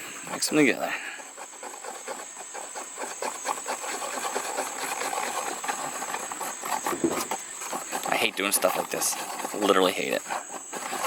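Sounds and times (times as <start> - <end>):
screwdriver scraping mixing epoxy: 0.0 - 11.0.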